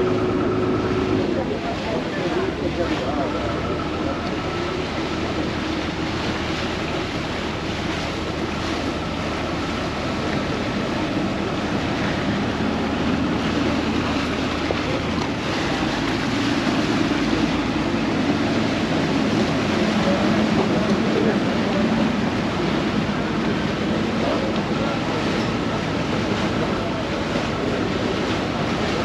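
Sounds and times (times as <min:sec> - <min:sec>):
boat engine drone: 0:00.0 - 0:29.0
water rushing past hull: 0:00.0 - 0:29.0.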